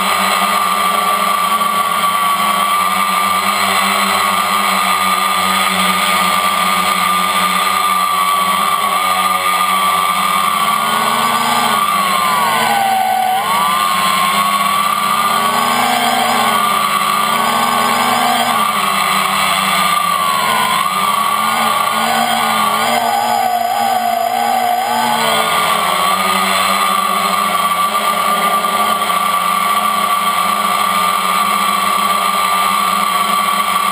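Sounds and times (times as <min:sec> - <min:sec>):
drone motors whining: 0:00.0 - 0:33.9.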